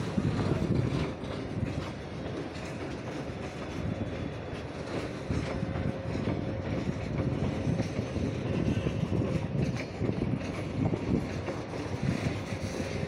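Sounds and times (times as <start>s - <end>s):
steel wheels rumbling on rails: 0.0s - 13.0s
wheels clicking over rail joints: 0.0s - 13.0s.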